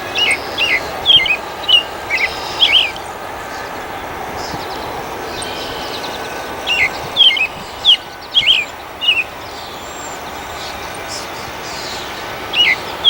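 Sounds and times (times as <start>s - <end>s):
bird whistling downward notes: 0.0s - 13.0s
steady background noise: 0.0s - 13.0s.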